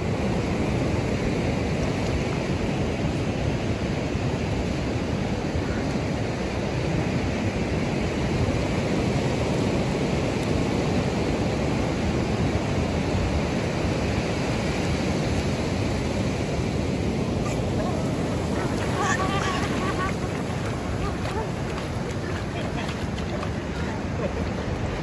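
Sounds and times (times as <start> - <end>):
ocean surf on a beach: 0.0 - 25.0.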